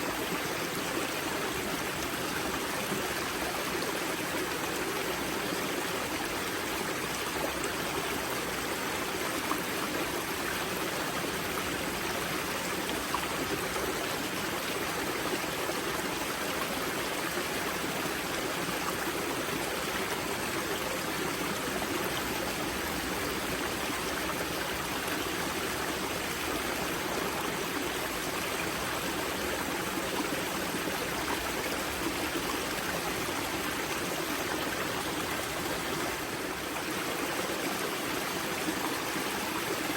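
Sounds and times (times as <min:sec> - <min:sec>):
water babbling over rocks: 0:00.0 - 0:39.9.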